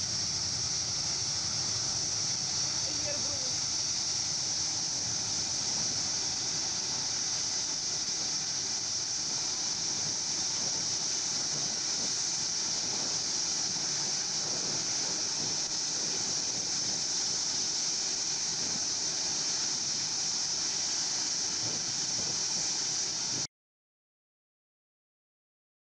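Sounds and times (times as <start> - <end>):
jet engines running: 0.0 - 23.5.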